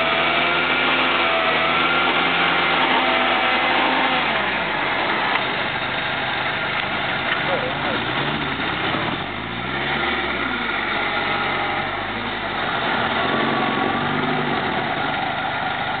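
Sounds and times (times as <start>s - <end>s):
suv engines revving: 0.0s - 16.0s.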